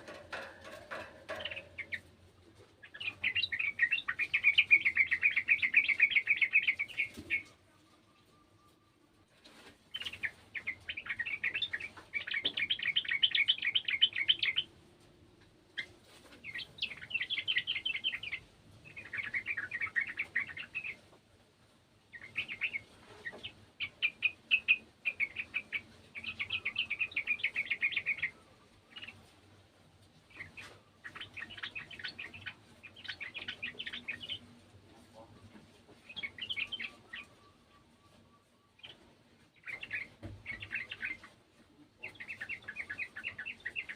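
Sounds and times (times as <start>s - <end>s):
bird singing chattering song: 0.0s - 2.2s, 2.8s - 7.5s, 9.9s - 14.7s, 15.8s - 21.0s, 22.1s - 29.2s, 30.3s - 34.6s, 36.0s - 43.9s.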